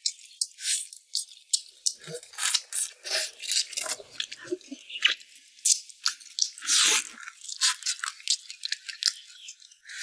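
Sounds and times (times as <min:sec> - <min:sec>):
crunchy chewing: 0:00.0 - 0:10.0.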